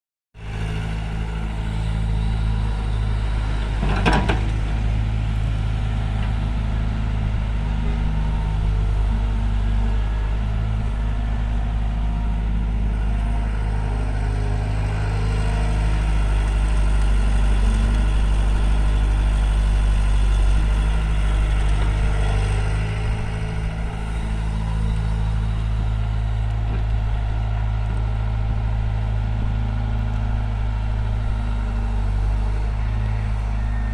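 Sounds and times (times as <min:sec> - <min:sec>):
diesel engine running: 0:00.4 - 0:33.9.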